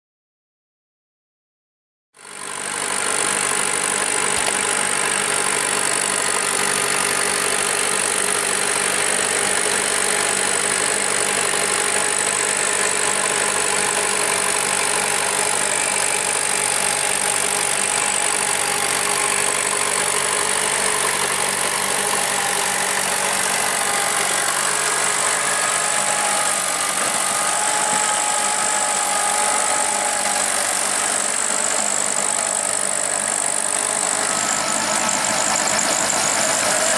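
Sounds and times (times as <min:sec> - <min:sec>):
tractor diesel engine running: 0:02.2 - 0:36.9.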